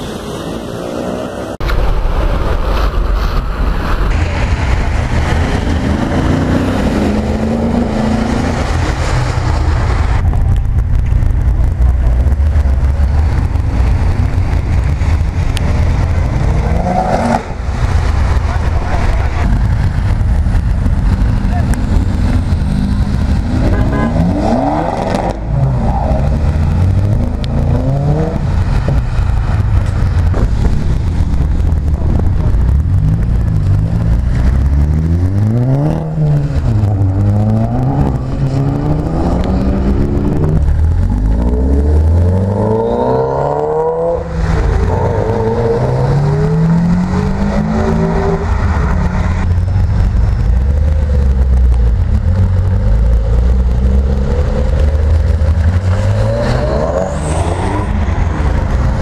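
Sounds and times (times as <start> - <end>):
cars accelerating and revving: 0.0 - 59.0
low engine rumble: 1.6 - 42.8, 44.0 - 59.0.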